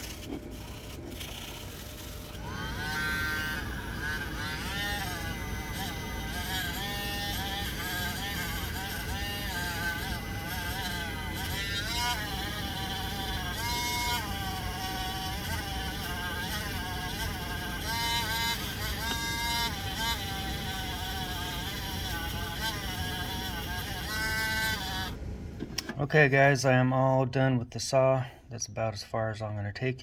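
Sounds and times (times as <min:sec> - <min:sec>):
small motor whining: 0:00.0 - 0:25.2.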